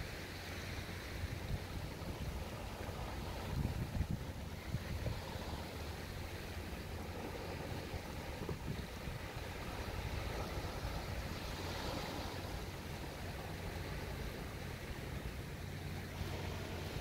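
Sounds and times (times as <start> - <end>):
waves breaking over rocks: 0.0 - 17.0
wind rumbling on microphone: 0.0 - 17.0.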